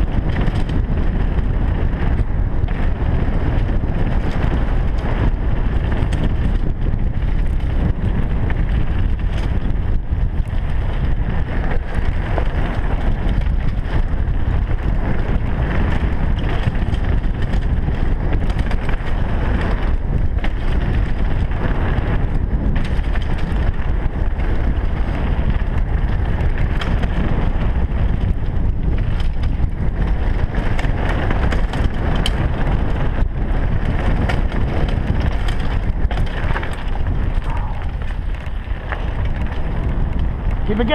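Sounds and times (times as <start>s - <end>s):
bike clattering: 0.0s - 40.9s
bike tyres rumbling on dirt: 0.0s - 40.9s
wind buffeting microphone: 0.0s - 40.9s.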